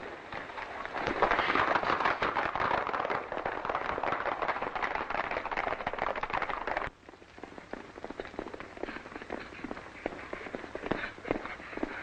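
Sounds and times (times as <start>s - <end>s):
horses galloping hoofbeats: 0.0s - 12.0s.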